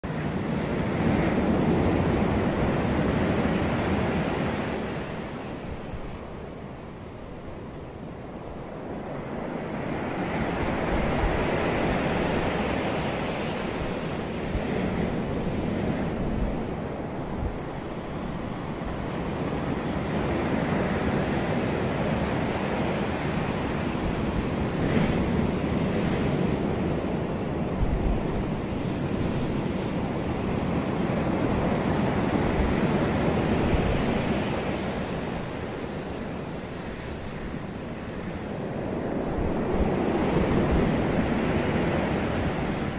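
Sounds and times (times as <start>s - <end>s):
ocean waves washing ashore: 0.0s - 42.9s.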